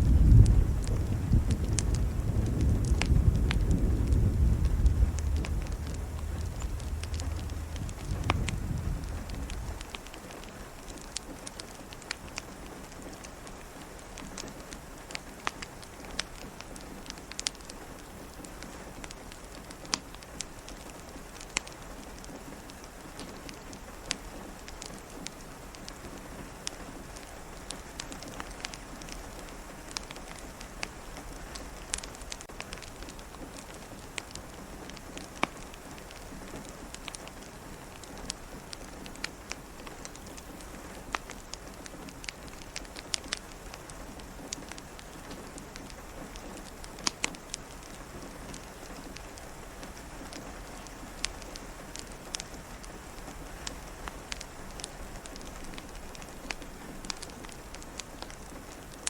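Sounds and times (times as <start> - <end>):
crackling fire with pops: 0.0 - 59.0
steady rain falling: 0.0 - 59.0.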